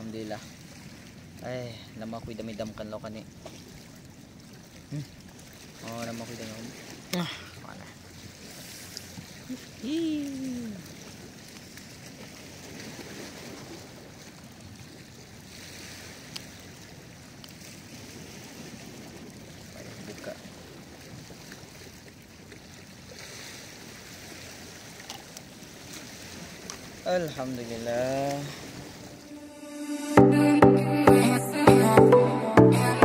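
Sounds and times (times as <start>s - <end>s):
water lapping against rocky shore: 0.0s - 29.4s.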